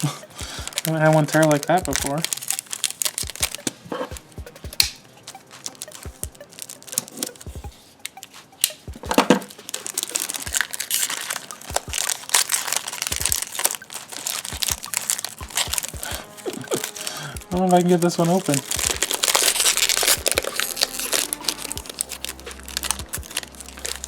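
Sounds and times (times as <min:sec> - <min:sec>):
foil wrapper crinkling and tearing: 0:00.0 - 0:07.4, 0:09.4 - 0:24.0.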